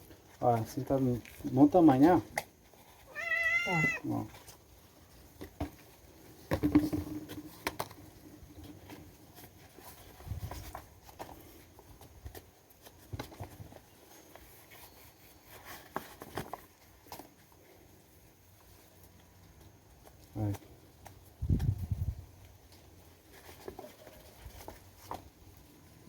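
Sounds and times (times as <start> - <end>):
corn husks rustling: 0.0 - 26.0.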